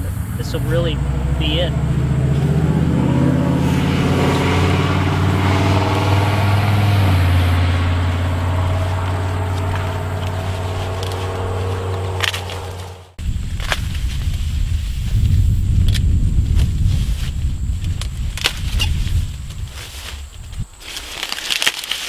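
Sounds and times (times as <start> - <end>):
vehicle engine humming: 0.0 - 20.8.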